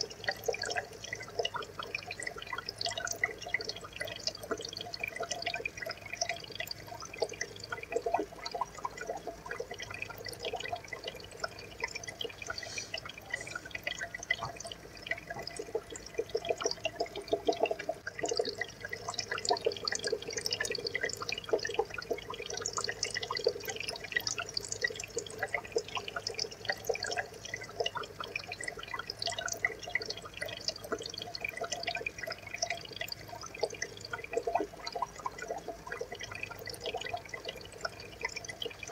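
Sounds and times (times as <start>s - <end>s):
water trickling in aquarium: 0.0s - 38.9s.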